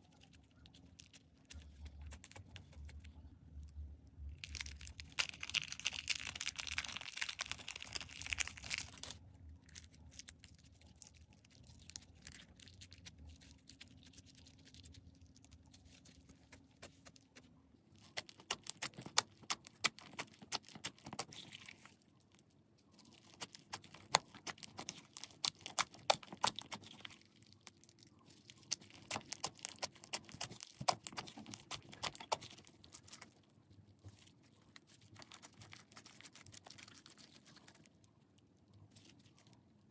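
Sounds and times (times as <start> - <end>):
slime crackling and popping: 4.3 - 37.9.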